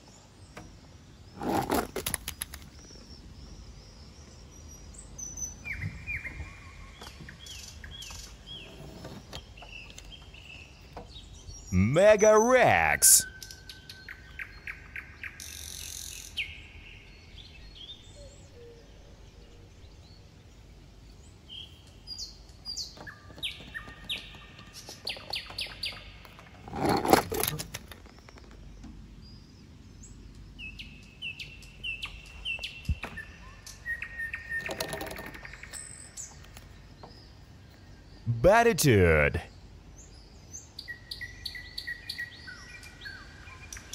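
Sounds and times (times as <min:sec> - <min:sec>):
songbirds chirping and whistling: 0:00.0 - 0:11.7, 0:13.2 - 0:27.1, 0:27.8 - 0:38.2, 0:39.5 - 0:43.9.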